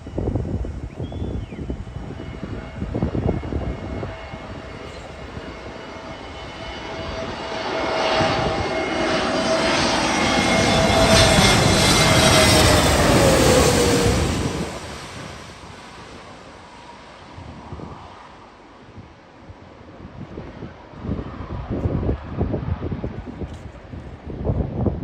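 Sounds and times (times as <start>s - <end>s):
wind buffeting microphone: 0.0s - 16.3s, 17.2s - 18.2s, 18.9s - 25.0s
jet airliner passing overhead: 0.0s - 25.0s.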